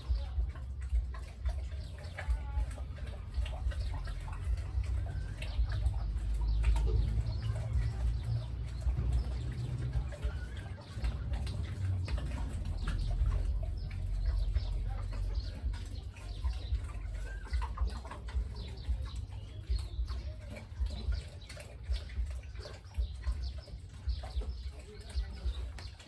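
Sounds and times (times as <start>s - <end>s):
chickens clucking: 0.0s - 26.0s
steady low rumble: 0.0s - 26.0s.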